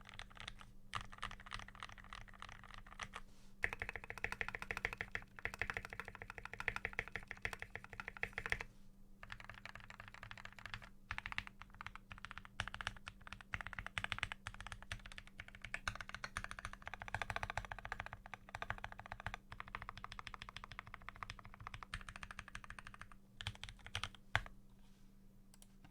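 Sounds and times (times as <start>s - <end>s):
fast typing on mechanical keyboard: 0.0s - 24.5s.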